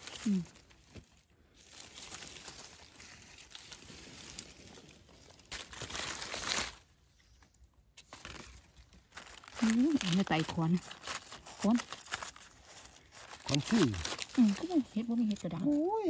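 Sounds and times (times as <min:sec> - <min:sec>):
dry leaves rustling: 0:00.0 - 0:16.0
leaves crackling: 0:00.0 - 0:16.0.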